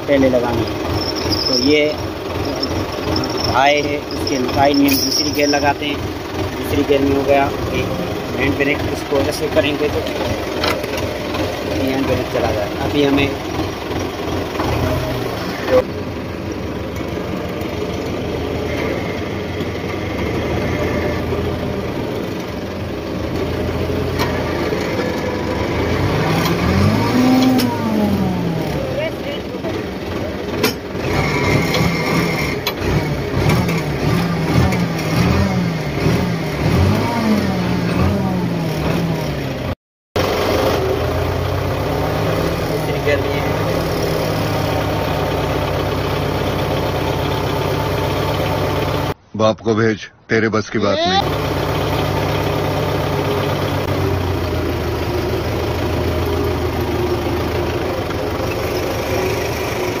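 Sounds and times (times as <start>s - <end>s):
tractor engine running: 0.0s - 49.2s, 51.2s - 60.0s.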